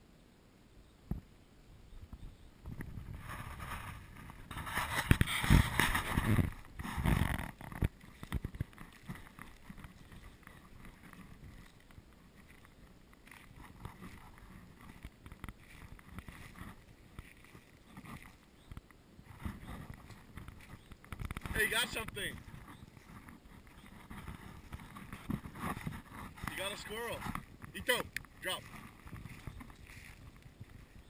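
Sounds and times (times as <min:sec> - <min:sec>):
faint crackles: 0:01.0 - 0:31.0
rumbling on microphone: 0:02.0 - 0:31.0.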